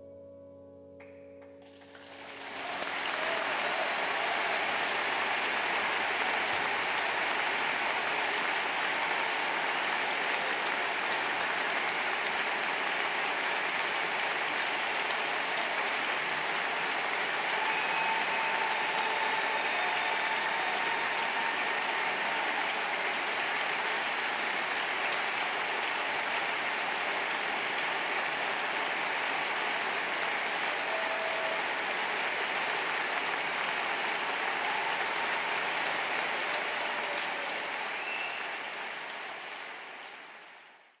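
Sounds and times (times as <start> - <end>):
audience applauding: 1.4 - 41.0.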